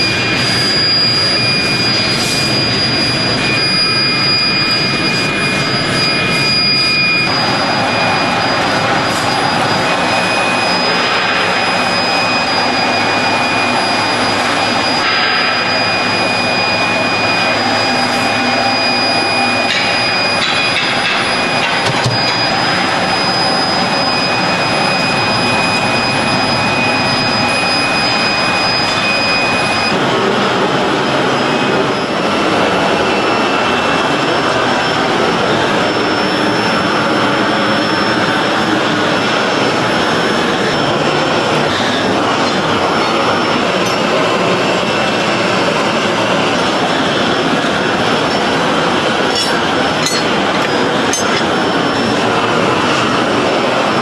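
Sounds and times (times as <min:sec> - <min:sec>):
factory machinery noise: 0:00.0 - 0:54.0
high machine whine: 0:00.0 - 0:54.0.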